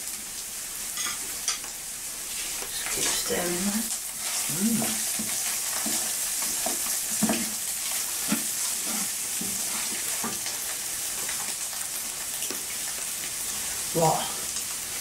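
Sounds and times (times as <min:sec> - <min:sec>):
rice sizzling in a frying pan: 0:00.0 - 0:15.0.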